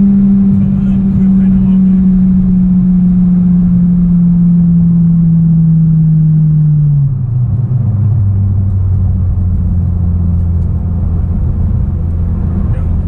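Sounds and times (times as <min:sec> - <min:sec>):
car engine droning: 0:00.0 - 0:13.0
road rumble: 0:00.0 - 0:13.0.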